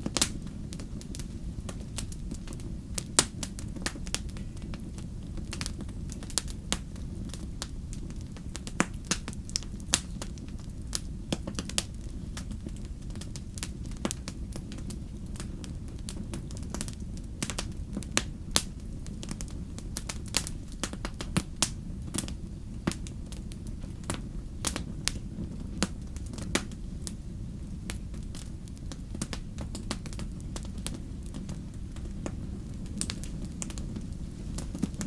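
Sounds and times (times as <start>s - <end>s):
low rumble of flames: 0.0s - 35.0s
wood fire crackling and popping: 0.0s - 35.0s.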